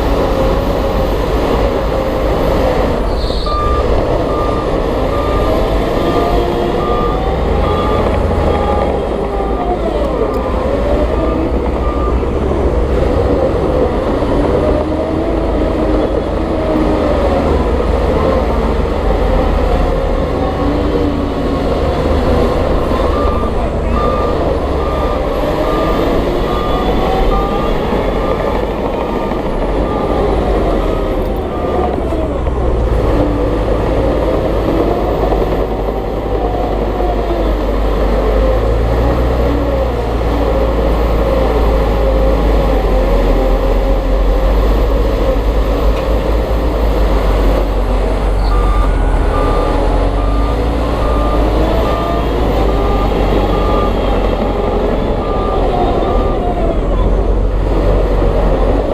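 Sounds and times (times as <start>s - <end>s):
diesel engine running: 0.0s - 58.9s
reversing alarm beeping: 0.6s - 43.4s, 46.2s - 57.4s.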